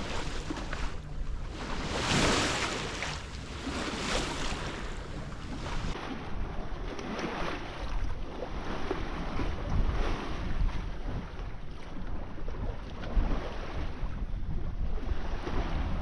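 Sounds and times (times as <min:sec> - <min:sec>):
water rushing along hull: 0:00.0 - 0:16.0
wind buffeting microphone: 0:00.0 - 0:16.0.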